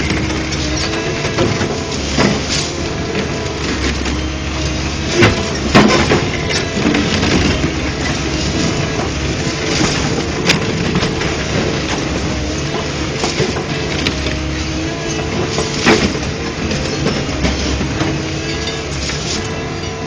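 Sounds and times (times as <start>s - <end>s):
material breaking bangs and crunches: 0.0s - 4.2s, 5.0s - 14.4s, 15.1s - 18.2s
excavator diesel engines running: 0.0s - 20.0s.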